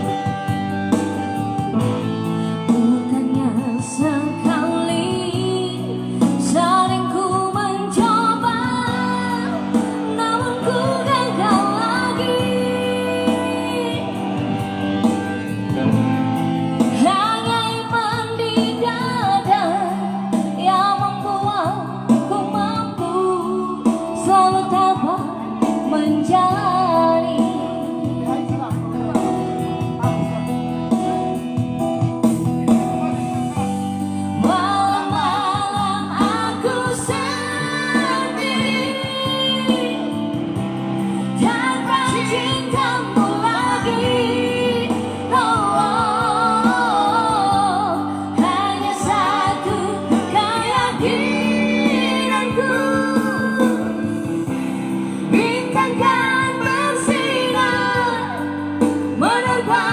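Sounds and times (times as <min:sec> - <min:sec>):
guitar accompaniment: 0:00.0 - 0:59.9
woman singing: 0:02.6 - 0:16.0, 0:16.8 - 0:28.8, 0:34.1 - 0:59.9.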